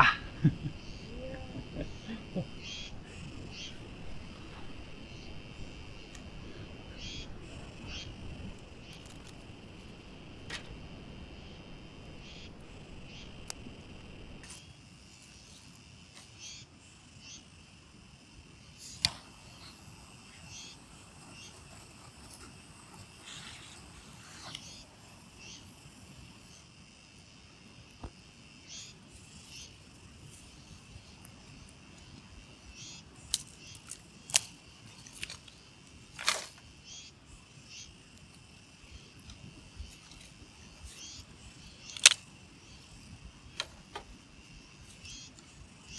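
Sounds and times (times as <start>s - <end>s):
insect chirring: 0.0s - 45.9s.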